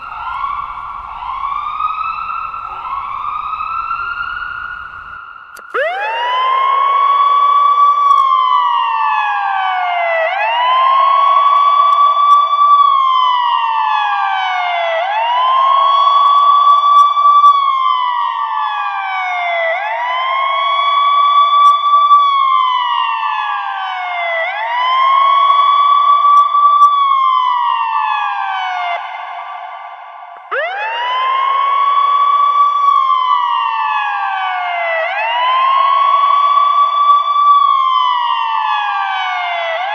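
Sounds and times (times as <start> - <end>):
ambulance siren wailing: 0.0 - 39.9.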